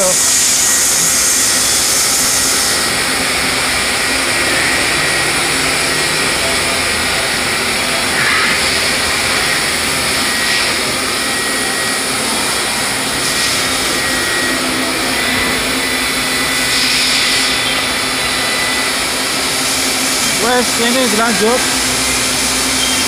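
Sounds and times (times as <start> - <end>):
lathes running with hiss and hum: 0.0 - 23.0.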